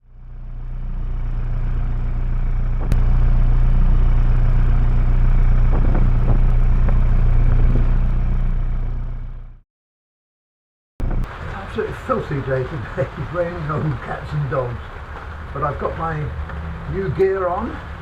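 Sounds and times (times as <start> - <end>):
diesel engine drone: 0.0 - 9.6, 11.0 - 18.0.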